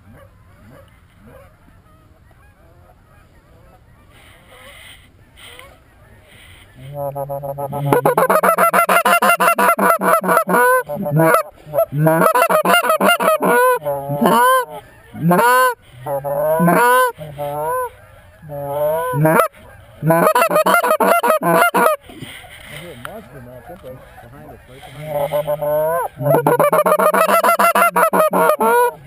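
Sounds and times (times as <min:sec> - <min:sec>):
goose honking and clucking: 0:00.4 - 0:29.0.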